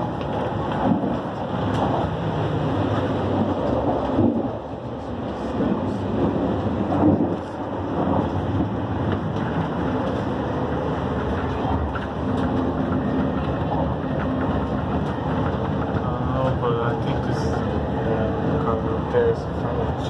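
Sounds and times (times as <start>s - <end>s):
train rumbling on the track: 0.0s - 20.0s.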